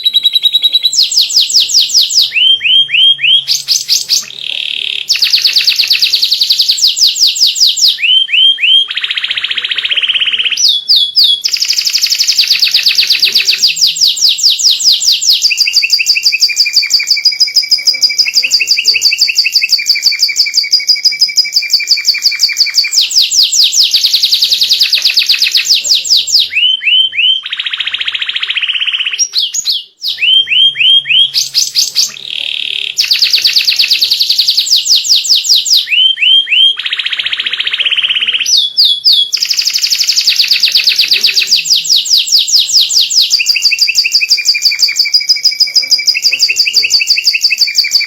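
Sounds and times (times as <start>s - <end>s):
canary singing trills: 0.0s - 48.0s.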